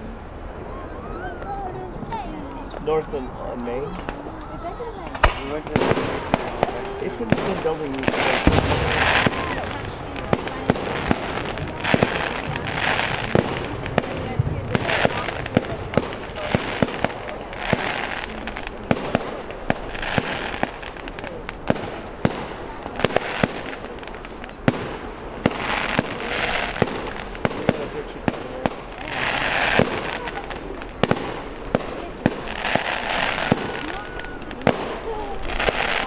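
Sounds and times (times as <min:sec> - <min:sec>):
fireworks hissing crackle: 0:00.0 - 0:36.0
fireworks bangs and pops: 0:01.4 - 0:36.0.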